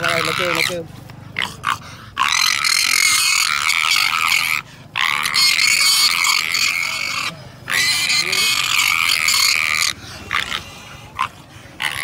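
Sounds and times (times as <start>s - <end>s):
pig squealing loudly: 0.0s - 12.0s.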